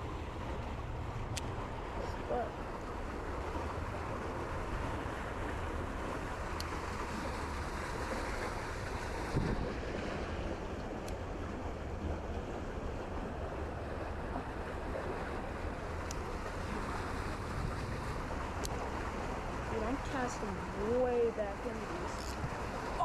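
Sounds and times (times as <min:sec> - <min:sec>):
creek water rushing: 0:00.0 - 0:23.0
wind buffeting microphone: 0:03.4 - 0:23.0.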